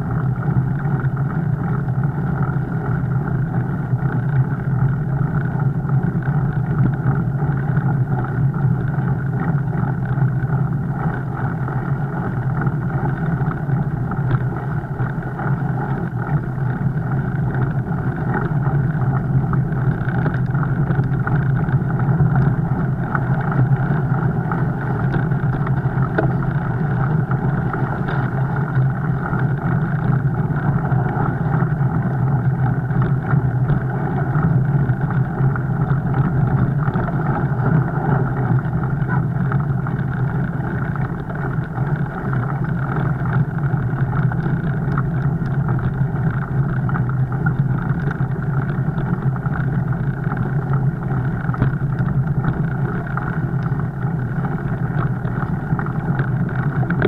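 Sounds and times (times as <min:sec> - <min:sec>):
bike tyres rolling: 0:00.0 - 0:57.0
constant low hum: 0:00.0 - 0:57.0.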